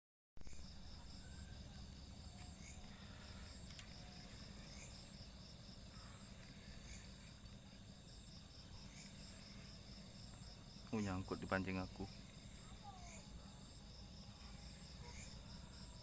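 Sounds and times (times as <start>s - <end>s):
cricket-like chirp pulsing: 0.4s - 16.0s
steady high insect trilling: 0.4s - 16.0s.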